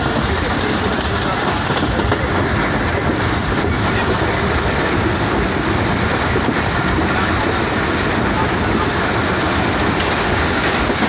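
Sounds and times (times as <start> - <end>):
train wheels rumbling and rattling: 0.0 - 11.0.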